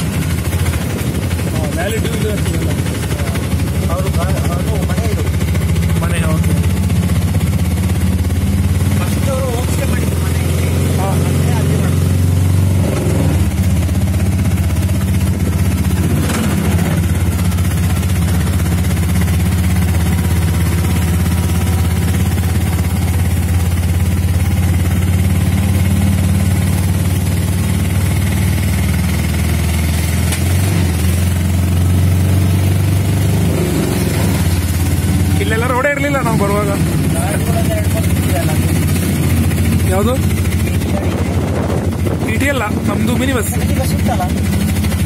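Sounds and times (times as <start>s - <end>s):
vehicle engine droning: 0.0s - 45.0s.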